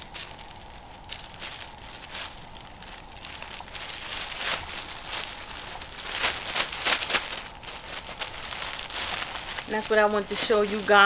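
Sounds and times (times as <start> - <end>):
fabric rustling and swishing: 0.0 - 11.0.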